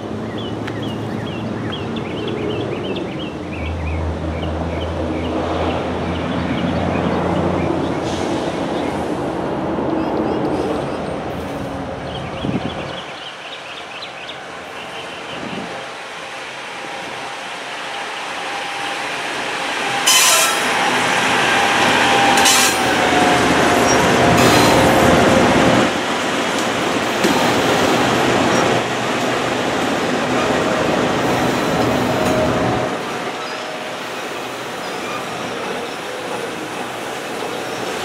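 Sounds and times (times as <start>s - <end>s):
rolling noise of rail cars: 0.0s - 38.0s.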